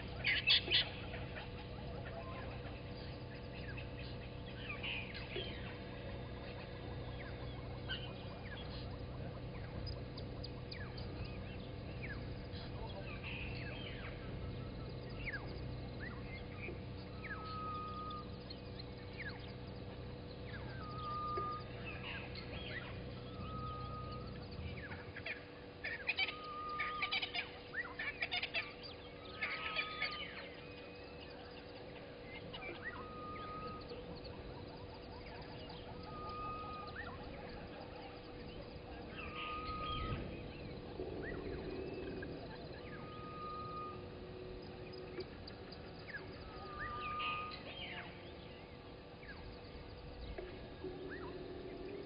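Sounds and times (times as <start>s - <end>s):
rapid chattering bird calls: 0.0s - 48.1s.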